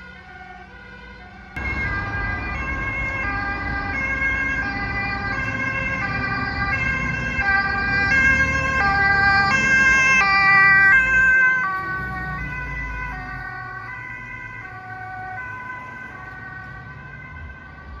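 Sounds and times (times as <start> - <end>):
diesel engine rumbling: 0.0 - 18.0
fire engine two-tone siren: 0.0 - 18.0.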